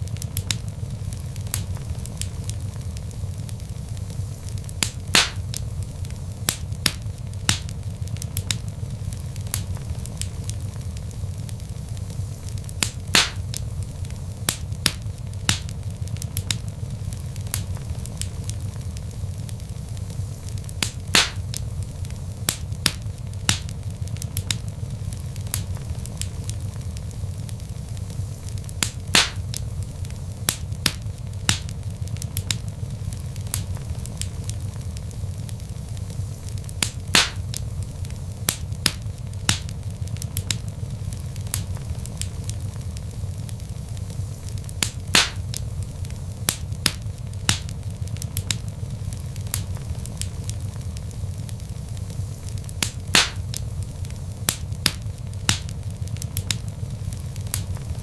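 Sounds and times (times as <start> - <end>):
fire snapping and popping: 0.0 - 58.0
low rumble of flames: 0.0 - 58.0.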